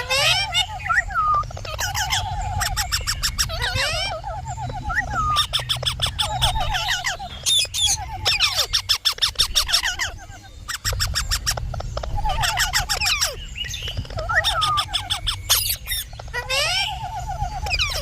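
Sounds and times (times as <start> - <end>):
low steady hum: 0.0 - 18.0
parrot squawking and chattering: 0.0 - 18.0.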